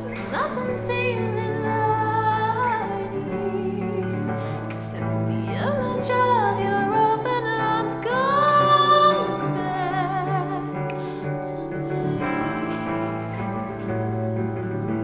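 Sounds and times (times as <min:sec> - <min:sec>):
woman singing with vibrato: 0:00.0 - 0:14.3
sustained instrumental backing: 0:00.0 - 0:15.0.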